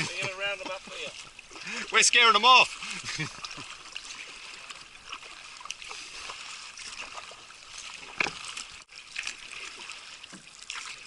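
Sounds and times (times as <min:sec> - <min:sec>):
water splashing around kayak: 0:00.0 - 0:11.0.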